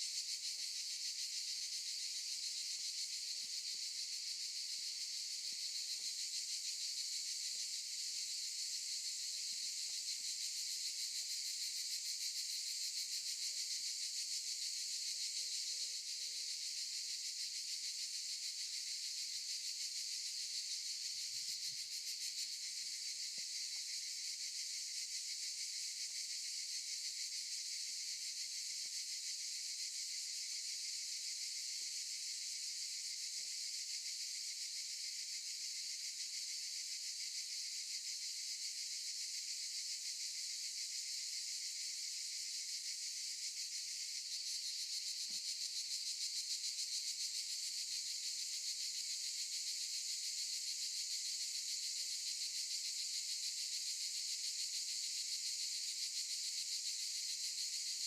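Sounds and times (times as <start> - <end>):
cicadas buzzing: 0.2 - 10.8, 17.6 - 39.0, 39.6 - 57.9.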